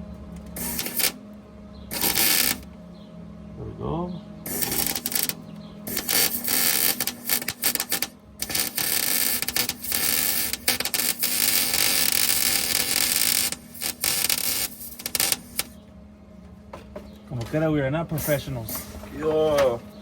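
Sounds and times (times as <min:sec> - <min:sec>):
welder arc crackling sizzle: 0:00.0 - 0:02.8, 0:04.4 - 0:15.8, 0:17.6 - 0:20.0.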